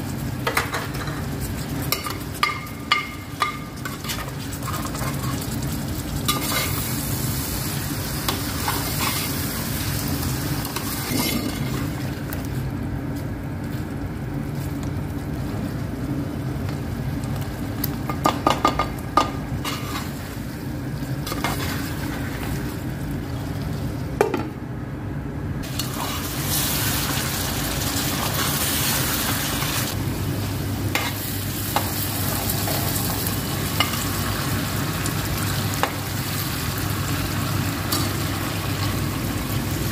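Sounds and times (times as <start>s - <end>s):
food sizzling in oil: 0.0s - 12.8s, 14.2s - 24.1s, 25.6s - 39.9s.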